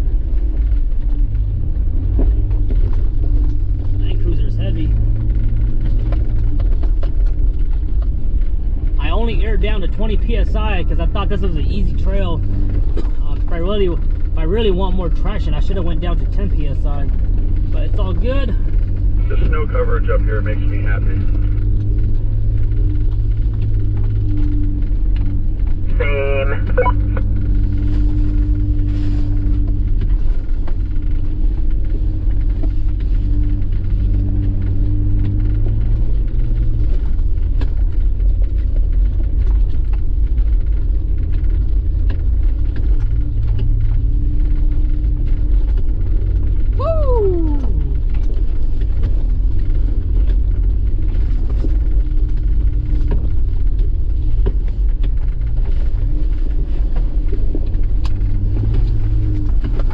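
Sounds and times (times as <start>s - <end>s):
engine running low and steady: 0.0s - 59.9s.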